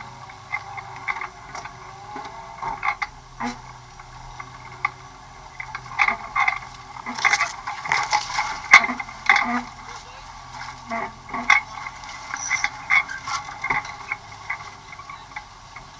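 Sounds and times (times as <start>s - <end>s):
buggy body rattling and knocking: 0.0s - 15.9s
faint engine hum: 0.0s - 15.9s.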